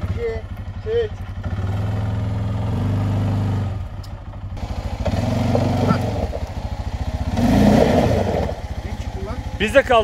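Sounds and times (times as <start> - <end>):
atv engine idling: 0.0 - 10.0.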